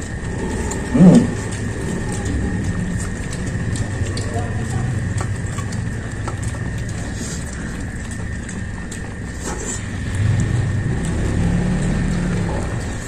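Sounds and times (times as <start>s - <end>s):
chewing and lip-smacking: 0.0s - 13.0s
low steady hum: 0.0s - 13.0s.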